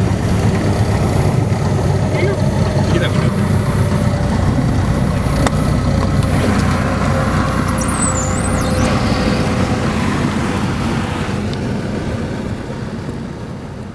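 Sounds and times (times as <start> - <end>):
light aircraft engine droning: 0.0 - 13.9.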